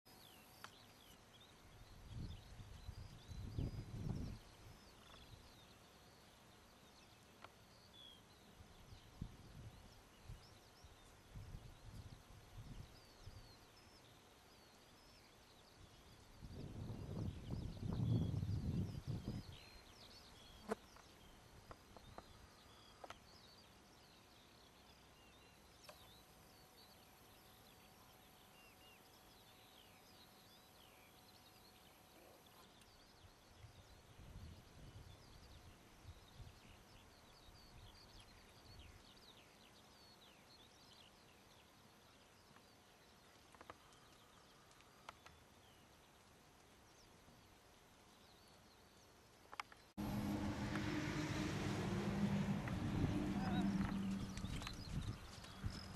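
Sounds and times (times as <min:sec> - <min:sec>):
faint birds chirping: 0:00.1 - 0:55.9.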